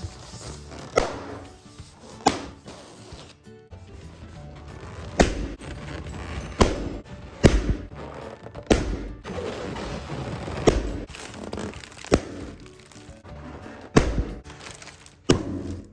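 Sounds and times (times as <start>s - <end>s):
balloons popping: 0.0s - 3.4s, 4.4s - 15.9s
rubber squeaking and rubbing: 0.0s - 15.9s.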